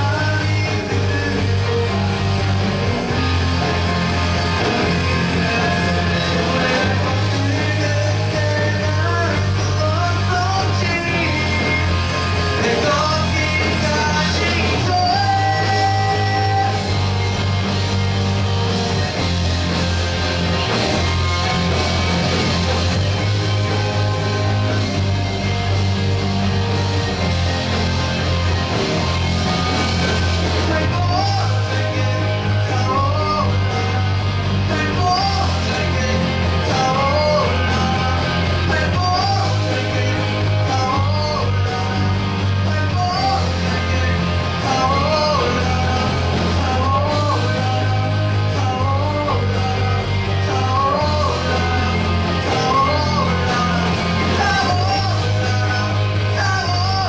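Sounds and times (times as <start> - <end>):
guitar melody with bent notes: 0.0 - 57.0
rock band with singer: 0.0 - 57.0.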